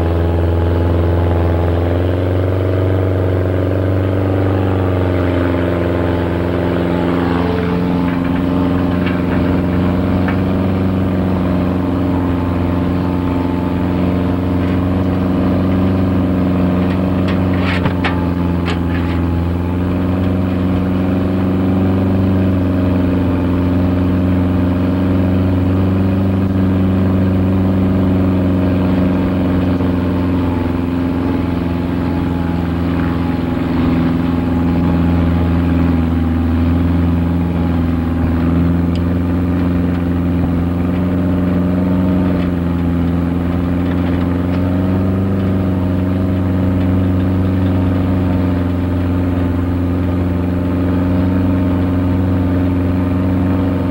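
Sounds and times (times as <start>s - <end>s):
road noise hiss: 0.0s - 53.9s
vehicle engine running: 0.0s - 53.9s.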